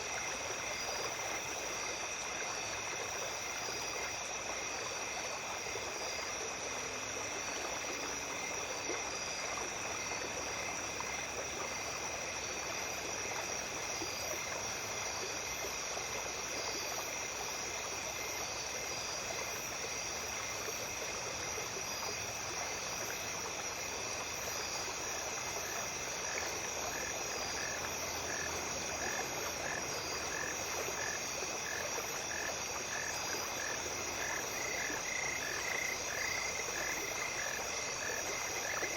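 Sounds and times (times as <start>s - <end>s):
insects trilling: 0.0s - 38.9s
small brook flowing: 0.0s - 38.9s.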